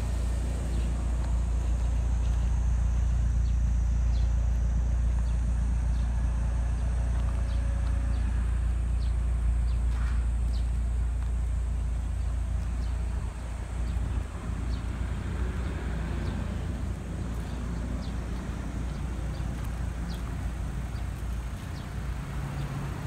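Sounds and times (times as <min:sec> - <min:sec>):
car engine idling: 0:00.0 - 0:23.0
footsteps on gravel: 0:00.0 - 0:23.0.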